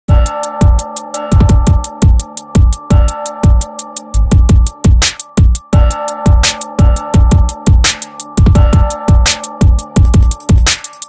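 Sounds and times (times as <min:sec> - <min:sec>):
electronic music with fast beat: 0:00.1 - 0:11.0.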